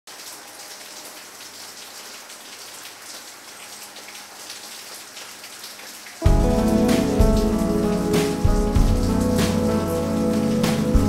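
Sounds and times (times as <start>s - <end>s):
steady rain falling: 0.1s - 11.0s.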